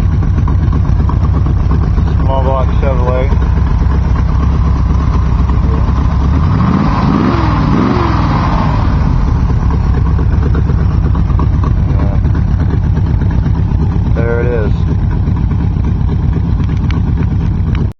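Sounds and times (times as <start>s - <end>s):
car engine idling and revving: 0.0s - 17.9s.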